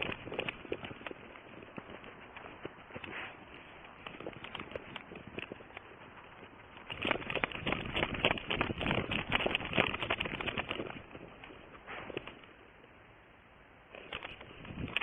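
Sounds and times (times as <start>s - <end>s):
footsteps crunching: 0.0s - 12.8s.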